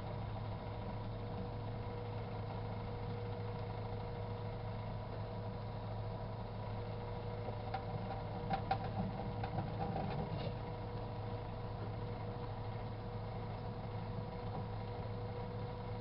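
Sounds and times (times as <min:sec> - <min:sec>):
microwave oven humming: 0:00.0 - 0:16.0.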